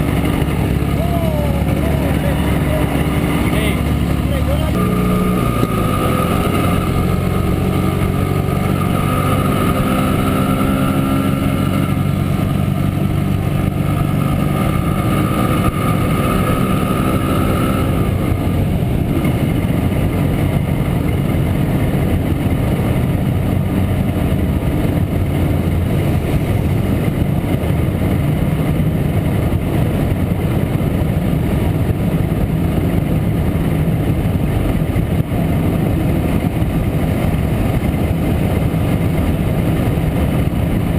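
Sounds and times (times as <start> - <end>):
two-stroke motorcycle engine running: 0.0 - 40.9.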